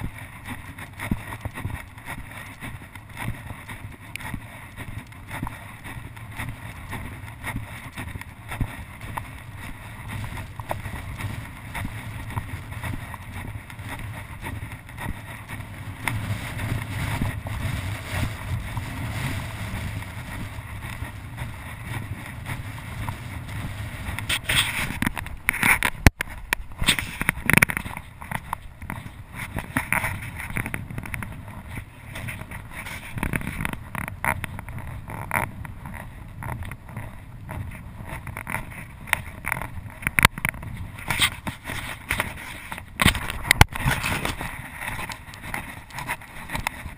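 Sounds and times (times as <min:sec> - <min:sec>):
footsteps in loose sand: 0:00.0 - 0:46.9
wind rumbling on microphone: 0:00.0 - 0:46.9.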